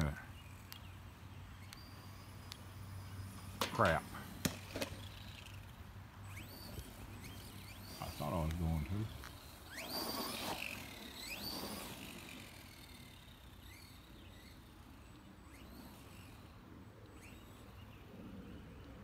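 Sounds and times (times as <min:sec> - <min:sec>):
electric motor whining: 0:00.0 - 0:19.0
wheels rushing over grass: 0:00.0 - 0:19.0.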